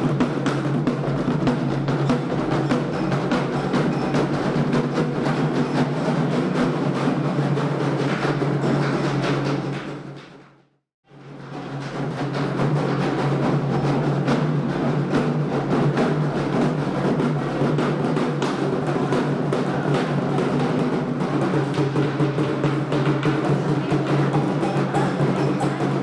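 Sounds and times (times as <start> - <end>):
hand drums playing fast rhythm: 0.0 - 9.7, 11.9 - 26.0.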